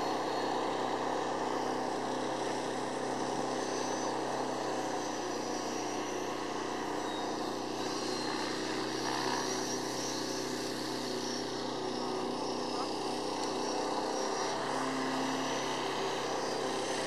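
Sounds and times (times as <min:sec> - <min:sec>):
high motor whine: 0:00.0 - 0:17.0
model plane propeller drone: 0:00.0 - 0:17.0.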